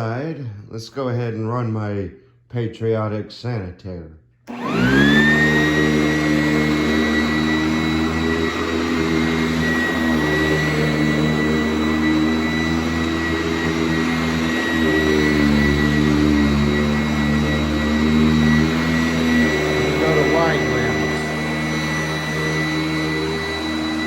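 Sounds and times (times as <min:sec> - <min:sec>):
vacuum cleaner motor whining: 0:04.5 - 0:24.0.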